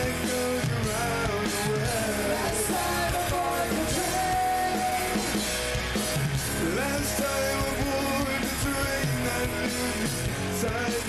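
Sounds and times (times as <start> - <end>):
drums playing: 0.0 - 11.0
electric bass: 0.0 - 11.0
electric guitar: 0.0 - 11.0.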